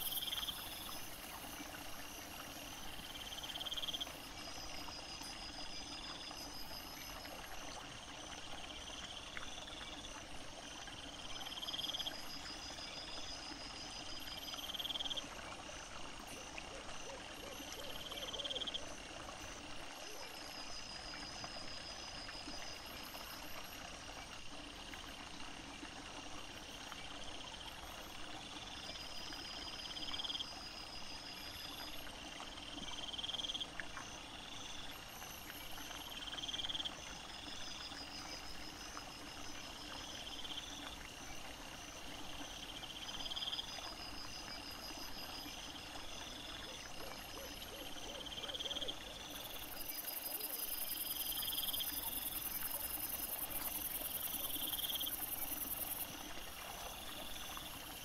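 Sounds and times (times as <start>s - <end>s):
constant hiss: 0.0s - 58.0s.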